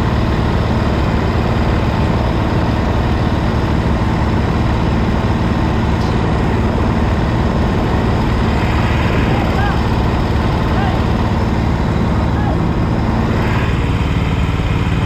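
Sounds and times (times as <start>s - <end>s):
racing kart engine running: 0.0s - 15.0s.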